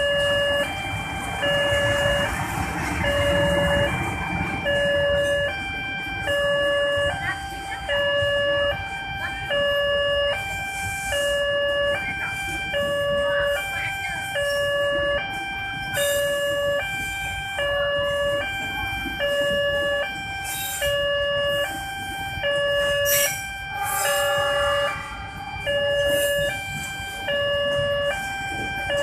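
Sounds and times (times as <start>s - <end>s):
level crossing warning alarm: 0.0s - 29.0s
train coaches rumbling: 0.0s - 29.0s.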